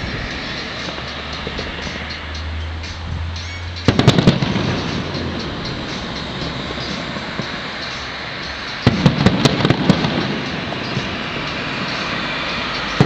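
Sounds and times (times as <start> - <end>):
firework bangs and crackles: 0.0 - 2.3, 3.8 - 13.0
steady background hiss: 0.0 - 13.0.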